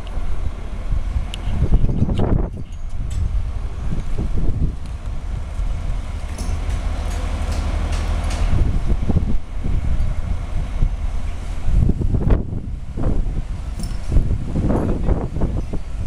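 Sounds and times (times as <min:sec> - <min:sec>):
steady low rumble: 0:00.0 - 0:16.0
wind buffeting microphone: 0:00.0 - 0:16.0.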